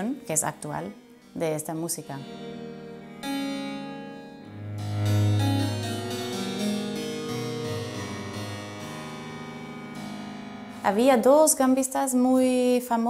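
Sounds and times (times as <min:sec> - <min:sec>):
harpsichord chords: 0:00.0 - 0:11.8.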